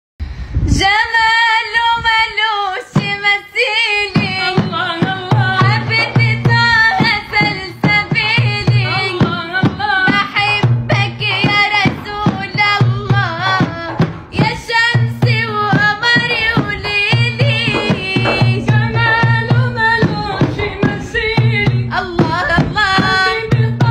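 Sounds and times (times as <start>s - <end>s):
woman singing: 0.6s - 23.9s
low repeating drum beat: 4.1s - 23.9s.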